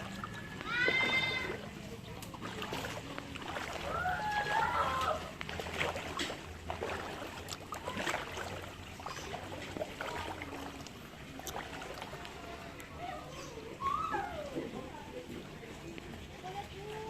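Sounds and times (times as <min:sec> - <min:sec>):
floodwater splashing: 0:00.0 - 0:17.0.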